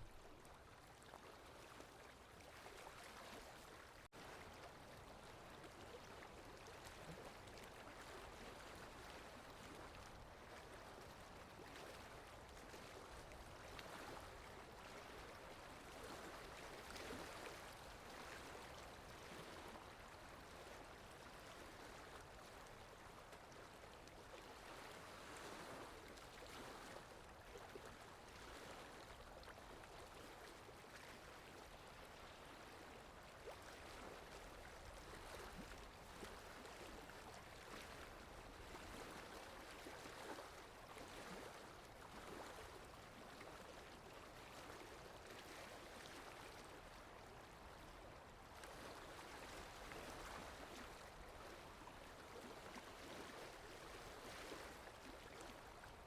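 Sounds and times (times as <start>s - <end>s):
water lapping and splashing: 0.0s - 56.0s.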